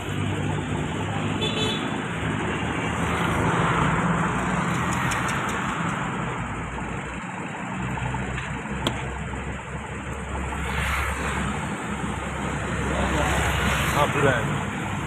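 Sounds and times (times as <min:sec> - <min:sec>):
road traffic noise: 0:00.0 - 0:15.0
vehicle engine running: 0:02.0 - 0:15.0.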